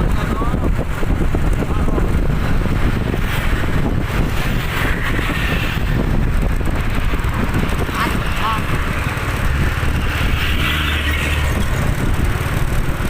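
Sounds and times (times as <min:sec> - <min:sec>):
road traffic passing: 0:00.0 - 0:13.0
wind noise on microphone: 0:00.0 - 0:13.0.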